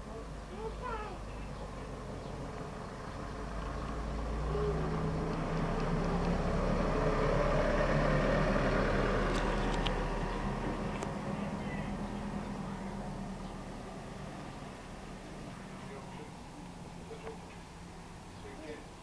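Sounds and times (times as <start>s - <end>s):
vehicle passing by: 1.0s - 18.8s.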